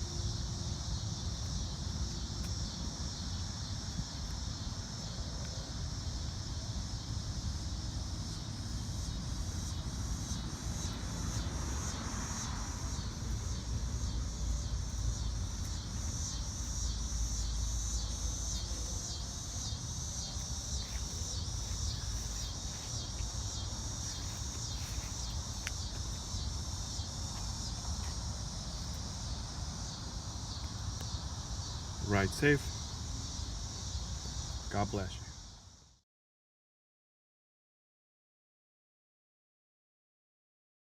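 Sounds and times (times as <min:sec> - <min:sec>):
continuous low rumble: 0:00.0 - 0:35.3
crickets chirping: 0:00.0 - 0:36.0.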